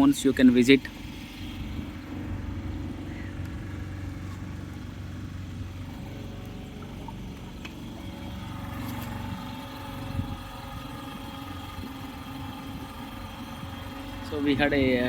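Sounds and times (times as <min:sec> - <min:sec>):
motorboat engine running: 0:00.0 - 0:15.0.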